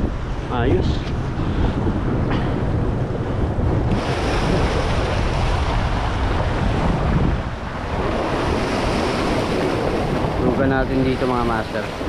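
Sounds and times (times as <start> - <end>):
surf washing against shore: 0.0 - 12.0
wind blowing across microphone: 0.0 - 12.0.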